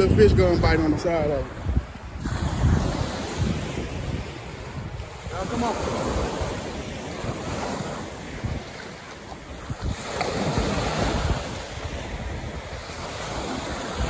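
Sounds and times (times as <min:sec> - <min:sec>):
surf breaking on a beach: 0:00.0 - 0:14.0
wind buffeting microphone: 0:00.0 - 0:14.0.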